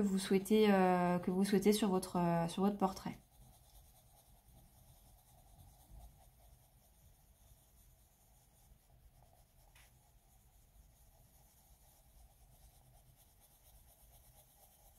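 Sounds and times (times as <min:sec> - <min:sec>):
pencil scratching on paper: 0:01.4 - 0:14.9.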